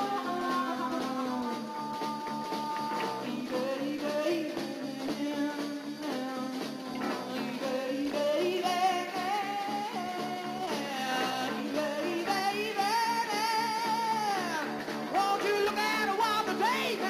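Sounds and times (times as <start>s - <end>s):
man singing: 0.0s - 17.0s
rock band playing live: 0.0s - 17.0s.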